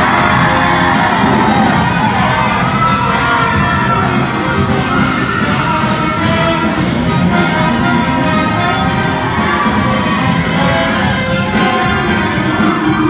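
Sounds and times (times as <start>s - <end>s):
live band playing dance music: 0.0s - 13.0s.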